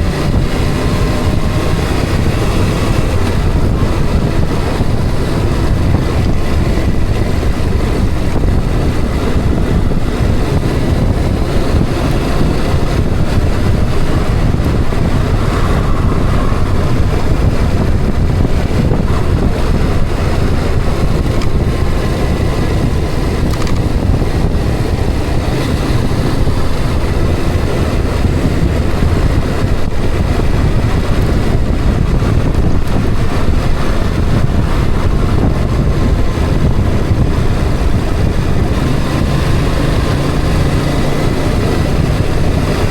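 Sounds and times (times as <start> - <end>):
road and engine rumble: 0.0 - 42.9
wind buffeting the microphone: 0.0 - 42.9.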